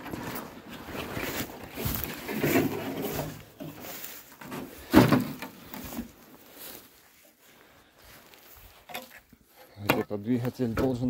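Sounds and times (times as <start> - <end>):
footsteps crunching dry grass: 0.0 - 11.0.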